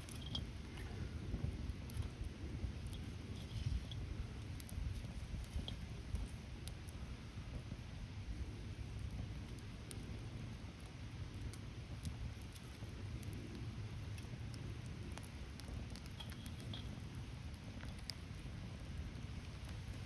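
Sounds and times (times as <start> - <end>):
low rumble of burning: 0.0 - 20.0
wood fire crackling: 0.0 - 20.0.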